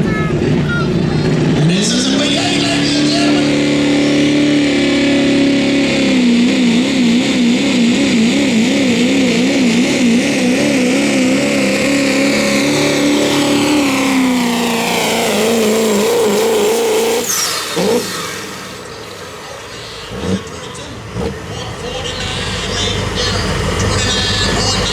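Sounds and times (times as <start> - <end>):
diesel truck engine at full throttle: 0.0 - 24.9.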